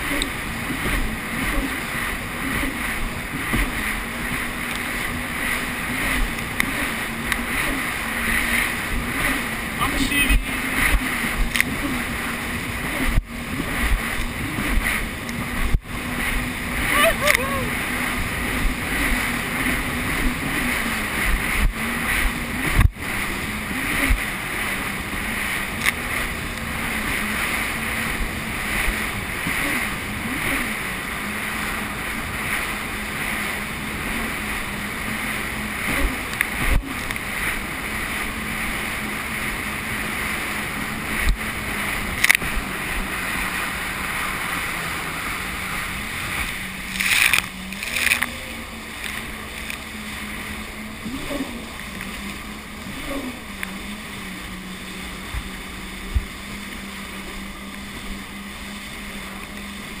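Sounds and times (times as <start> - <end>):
hull slapping water: 0.0 - 60.0
jet ski engine running: 0.0 - 60.0
water noise: 0.0 - 60.0
wind: 0.0 - 60.0.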